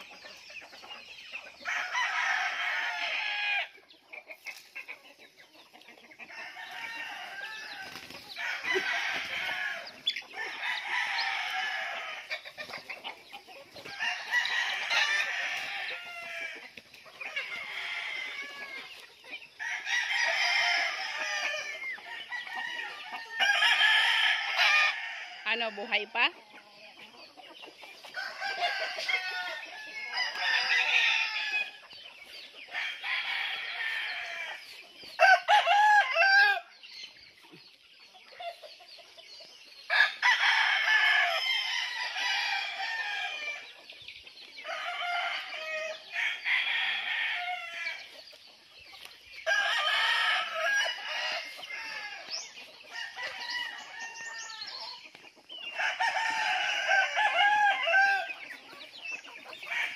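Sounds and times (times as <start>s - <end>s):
roosters crowing: 0.0s - 3.8s, 6.2s - 26.4s, 27.8s - 36.9s, 39.8s - 43.8s, 44.4s - 59.9s.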